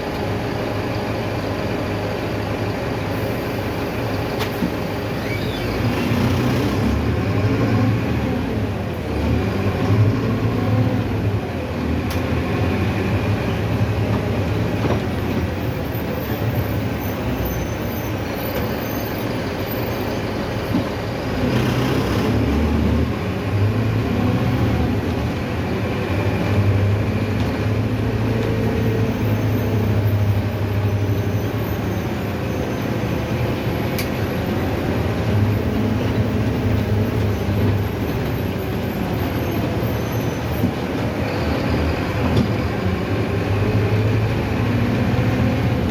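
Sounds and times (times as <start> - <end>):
bus diesel engine hum: 0.0 - 45.9
road noise: 0.0 - 45.9.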